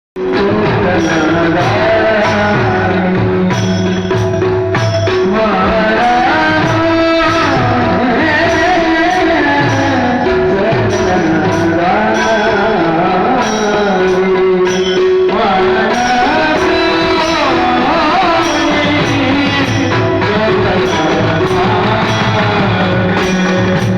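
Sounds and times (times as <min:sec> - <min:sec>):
hand drum strokes: 0:00.2 - 0:23.9
held accompanying tones: 0:00.2 - 0:23.9
person singing melody: 0:00.2 - 0:23.9.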